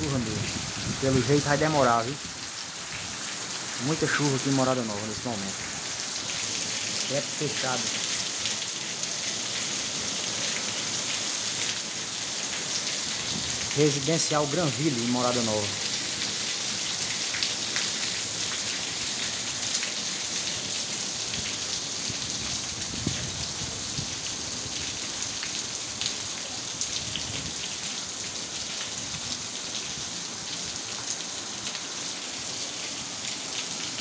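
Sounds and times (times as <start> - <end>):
heavy rain hiss: 0.0 - 34.0
raindrops hitting hard surfaces: 0.0 - 34.0.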